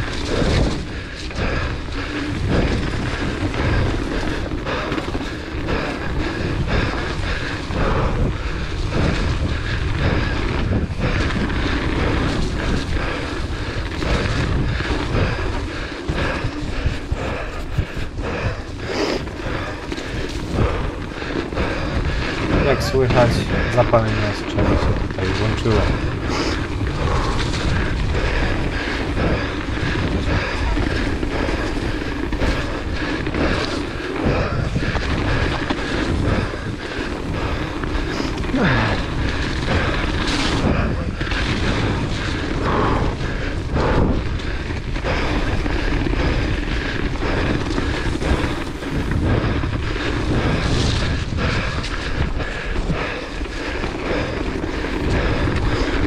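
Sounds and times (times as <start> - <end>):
tyre noise on dirt: 0.0 - 56.0
wind rushing over microphone: 0.0 - 56.0.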